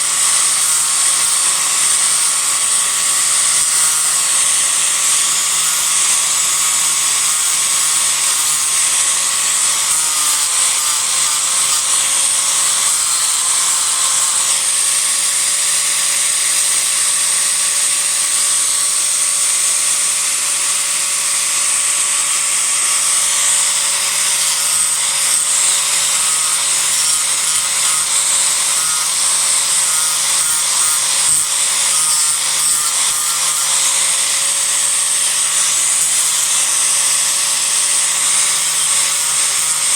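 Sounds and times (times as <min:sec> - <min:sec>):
disc grinder motor whine: 0:00.0 - 0:18.9, 0:20.3 - 0:39.9
grinder abrading wood: 0:00.0 - 0:39.9.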